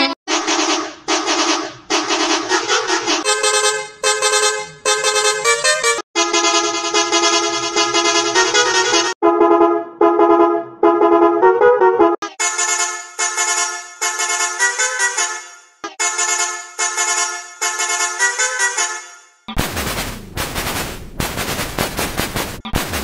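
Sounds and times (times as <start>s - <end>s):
multi-tone musical bus horn: 0.0s - 19.5s.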